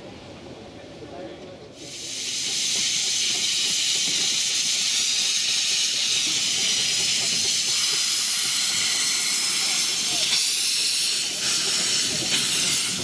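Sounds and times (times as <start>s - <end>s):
steam locomotive hissing: 1.8s - 13.0s.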